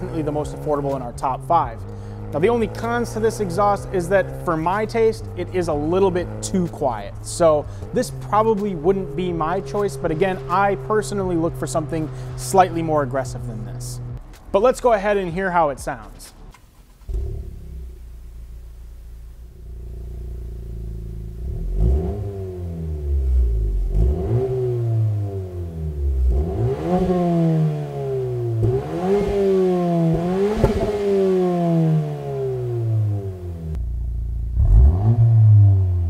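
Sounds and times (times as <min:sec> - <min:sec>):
car engine revving: 0:00.0 - 0:14.4, 0:16.1 - 0:36.0
car engine idling: 0:00.0 - 0:36.0.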